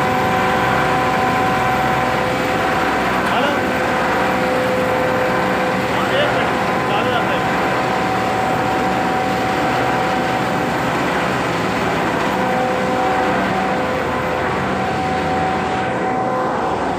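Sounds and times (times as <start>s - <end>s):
grinding mill running: 0.0s - 16.9s
steady mechanical whine: 0.0s - 16.9s.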